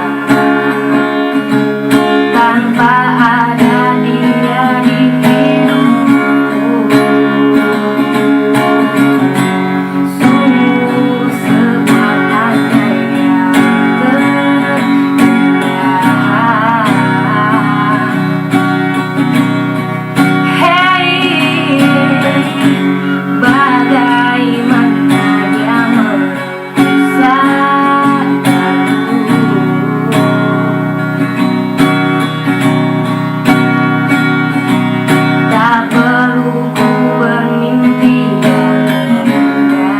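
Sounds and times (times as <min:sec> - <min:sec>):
acoustic guitar strumming: 0:00.0 - 0:39.9
person singing with vibrato: 0:00.0 - 0:39.9.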